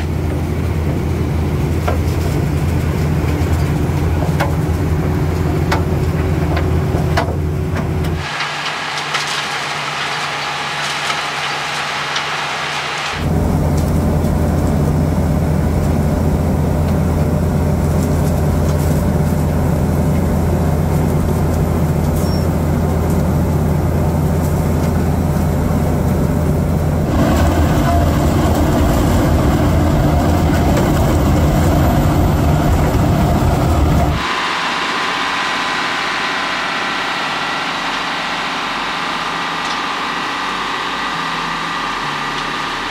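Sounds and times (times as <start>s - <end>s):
tractor engine drone: 0.0s - 42.9s.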